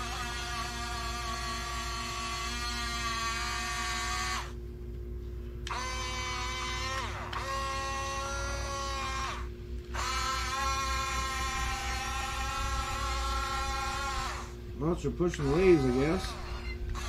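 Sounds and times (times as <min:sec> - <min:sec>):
electric motors whining: 0:00.0 - 0:04.6, 0:05.6 - 0:17.0.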